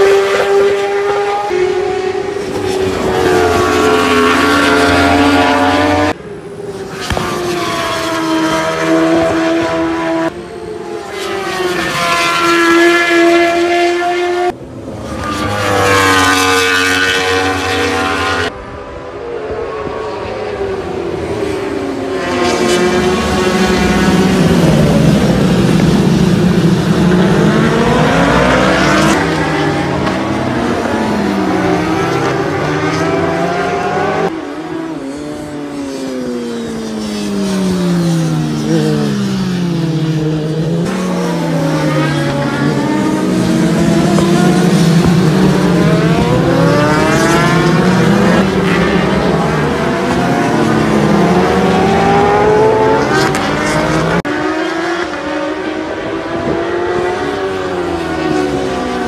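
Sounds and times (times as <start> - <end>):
racing motorcycles revving past: 0.0 - 6.2, 11.2 - 18.5, 21.9 - 59.0.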